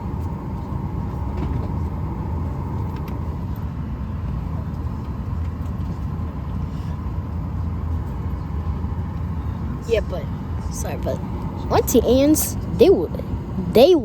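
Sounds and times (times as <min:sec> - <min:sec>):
airliner cabin rumble: 0:00.0 - 0:14.0
steady hum: 0:00.0 - 0:14.0.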